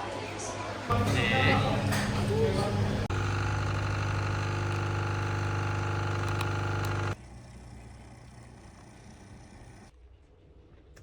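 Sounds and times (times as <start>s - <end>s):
coffee machine pump buzzing: 0.9s - 9.9s.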